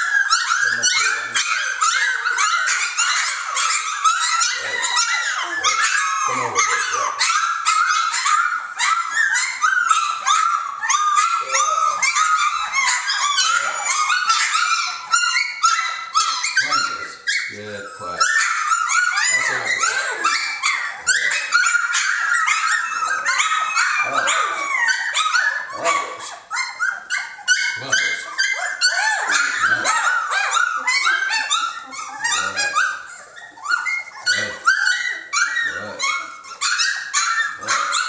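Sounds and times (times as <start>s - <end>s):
puppies squealing and whining: 0.0s - 38.0s.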